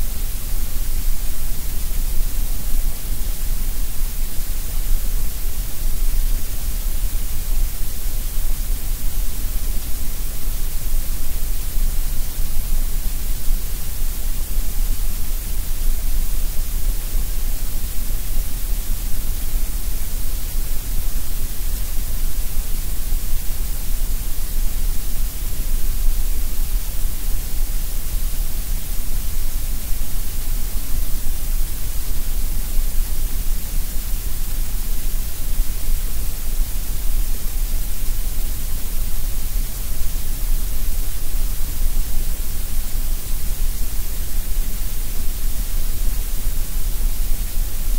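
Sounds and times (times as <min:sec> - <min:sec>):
steady synthetic noise hiss: 0:00.0 - 0:47.9.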